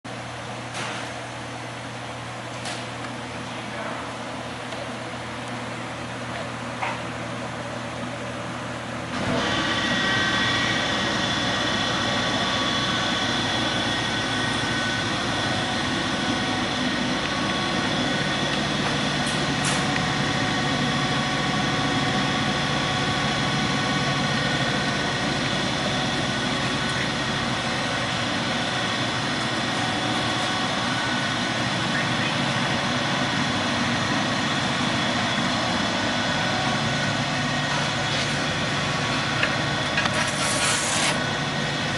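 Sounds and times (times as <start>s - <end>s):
furnace mechanical whir: 0.1s - 41.9s.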